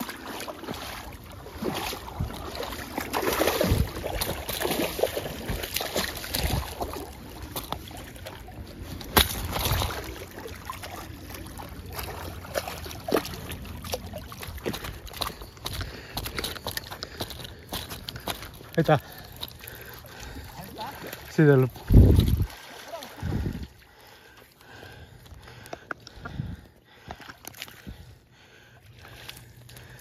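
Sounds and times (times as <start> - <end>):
fish splashing in water: 0.0 - 25.7.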